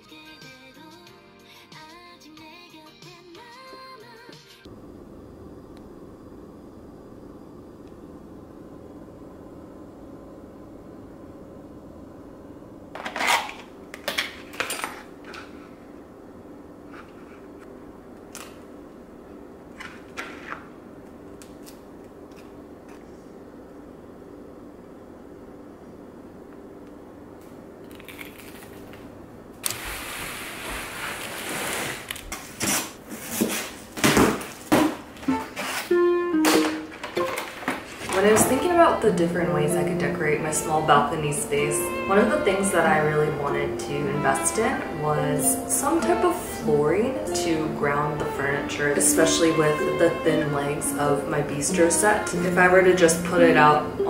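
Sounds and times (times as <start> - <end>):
kitchen room hum: 1.2 - 54.0.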